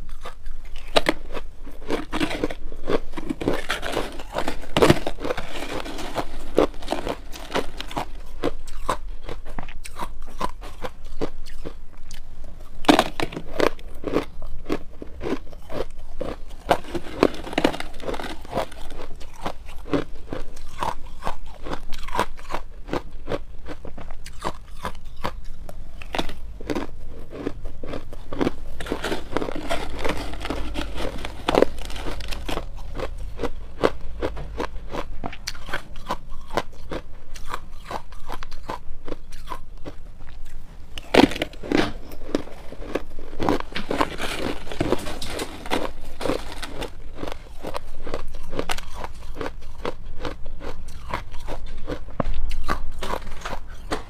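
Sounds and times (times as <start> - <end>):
crushed ice being chewed: 0.0 - 54.0.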